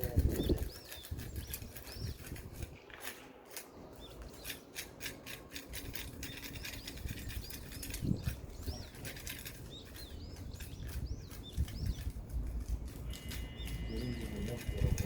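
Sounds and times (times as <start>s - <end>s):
hand scraper rasping on concrete: 0.0s - 15.0s.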